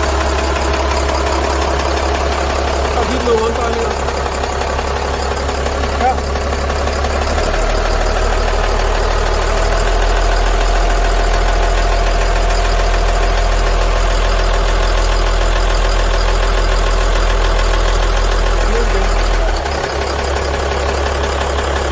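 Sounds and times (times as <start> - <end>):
diesel engine droning: 0.0 - 21.9
engine tapping and clunking: 0.0 - 21.9.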